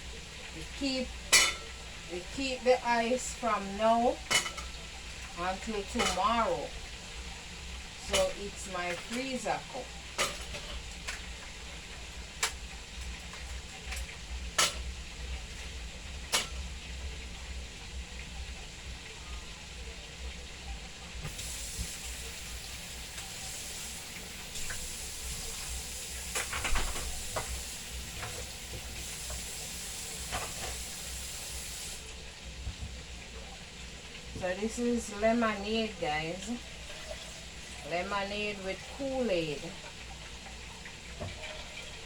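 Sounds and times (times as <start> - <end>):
chicken sizzling in hot oil: 0.0 - 42.0.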